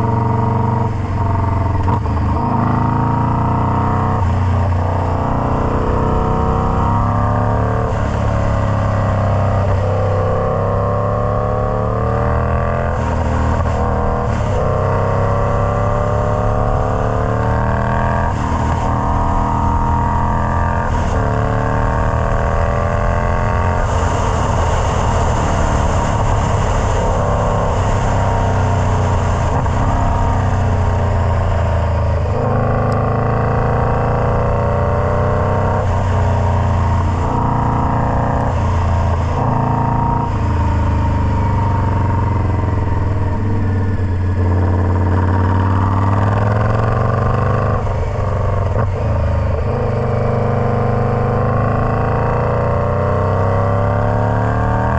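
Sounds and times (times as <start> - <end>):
motorcycle engine running loud: 0.0 - 54.9.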